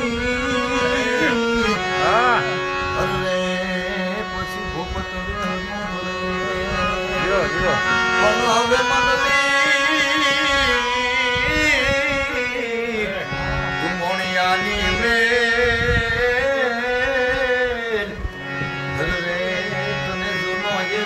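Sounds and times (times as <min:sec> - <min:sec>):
harmonium playing: 0:00.0 - 0:21.0
man singing devotional chant: 0:00.0 - 0:21.0.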